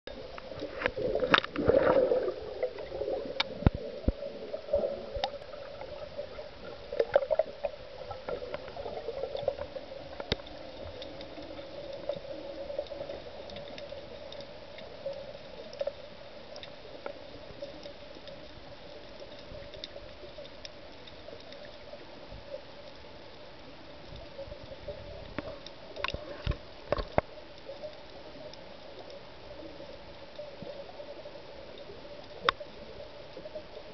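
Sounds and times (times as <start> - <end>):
underwater splashing and gurgling: 0.1 - 33.9.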